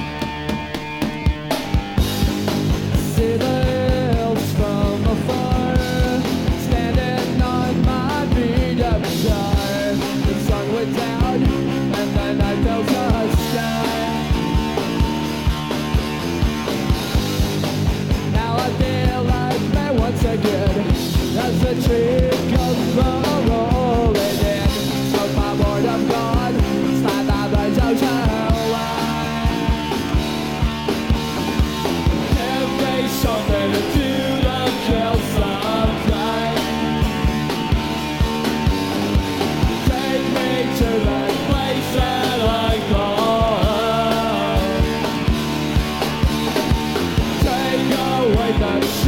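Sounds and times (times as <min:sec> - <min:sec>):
bass guitar: 0:00.0 - 0:49.0
drum kit: 0:00.0 - 0:49.0
electric guitars: 0:00.0 - 0:49.0.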